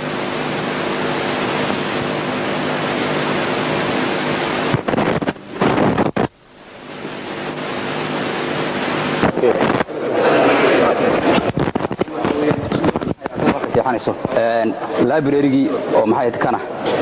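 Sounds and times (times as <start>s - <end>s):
loud crackling bursts: 0.0s - 16.1s
tape hiss with low hum: 0.0s - 17.0s.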